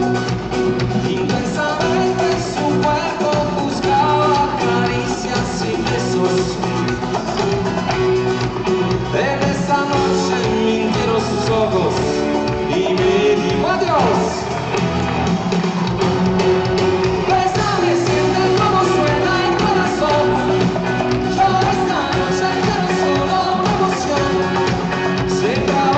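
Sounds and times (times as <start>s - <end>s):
live band playing with singing: 0.0s - 25.9s.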